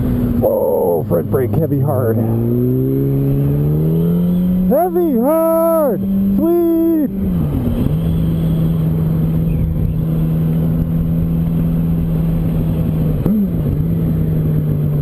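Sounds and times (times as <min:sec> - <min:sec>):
motorcycle engine steady note: 0:00.0 - 0:15.0.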